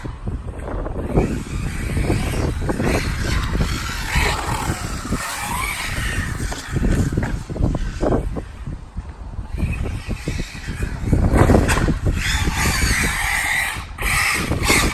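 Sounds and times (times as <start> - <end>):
electric motor whining: 0.0 - 8.7, 9.4 - 14.9
low rumbles: 0.0 - 14.9.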